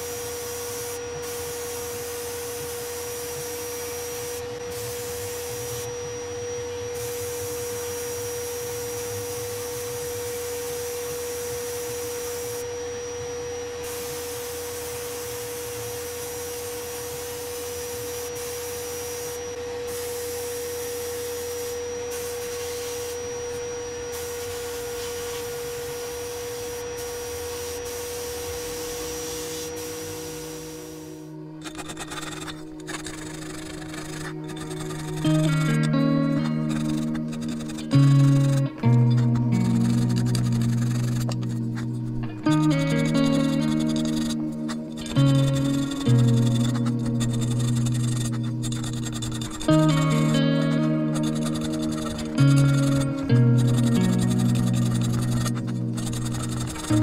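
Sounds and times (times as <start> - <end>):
dust-extraction vacuum whine: 0.0 - 57.0.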